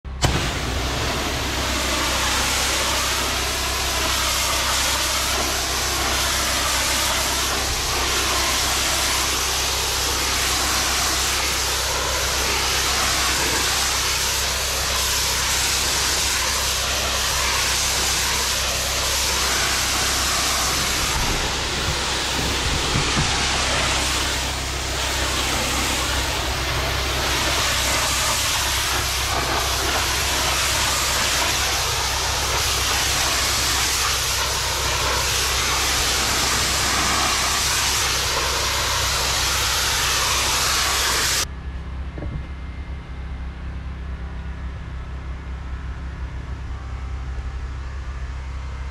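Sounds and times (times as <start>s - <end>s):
pressure washer drone: 0.0s - 48.9s
water jet hissing on concrete: 0.1s - 41.5s.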